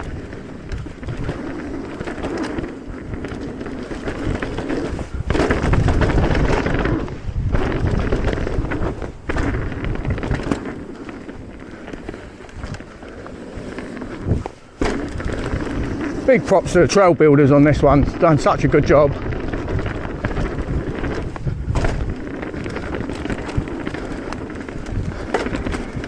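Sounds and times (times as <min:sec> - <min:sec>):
bike knocking over bumps: 0:00.0 - 0:16.9, 0:19.2 - 0:26.0
bike tyres rolling on dirt: 0:00.0 - 0:26.0
wind on microphone: 0:00.0 - 0:26.0.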